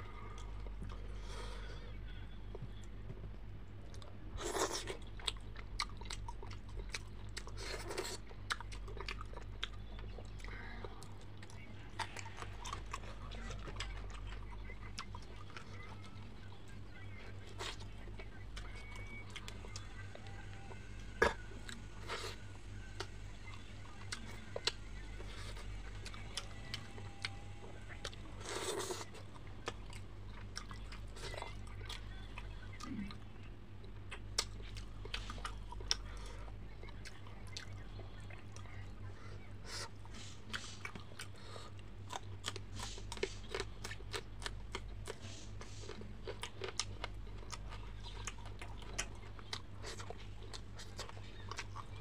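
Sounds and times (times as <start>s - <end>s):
person chewing crunchy food: 3.9s - 38.8s, 39.6s - 52.0s.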